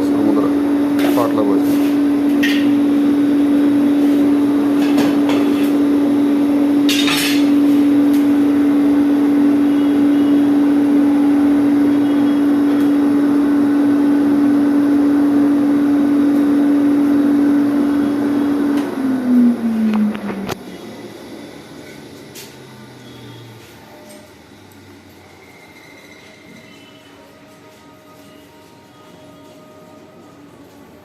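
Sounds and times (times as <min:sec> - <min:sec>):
electric air blower humming: 0:00.0 - 0:25.5.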